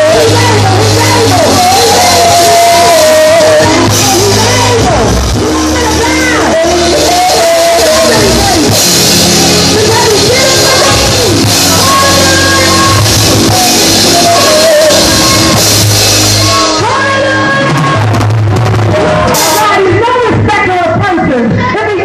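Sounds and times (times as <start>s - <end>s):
bass line: 0.0s - 21.5s
drum kit with cymbals: 0.1s - 19.8s.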